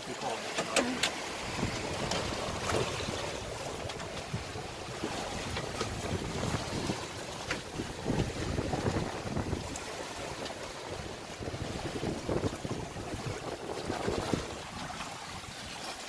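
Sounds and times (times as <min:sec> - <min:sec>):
water washing against hull: 0:00.0 - 0:16.0
wind buffeting microphone: 0:01.0 - 0:15.9.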